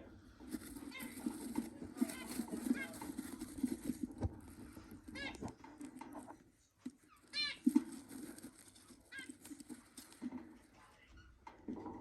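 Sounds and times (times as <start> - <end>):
rustling: 0.1 - 11.8.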